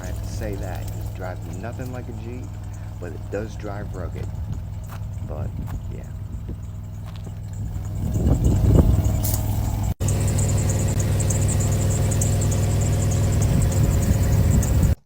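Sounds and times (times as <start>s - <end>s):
minivan engine humming: 0.0s - 15.0s.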